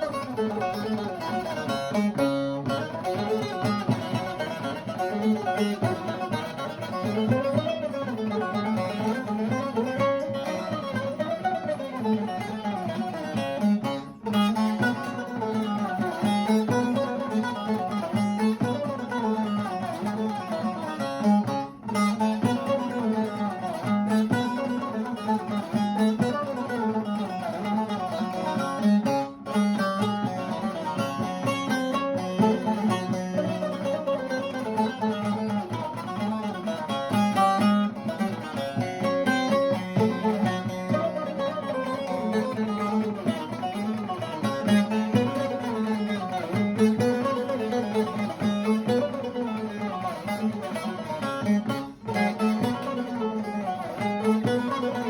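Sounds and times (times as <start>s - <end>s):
plucked string instrument melody: 0.0s - 55.0s.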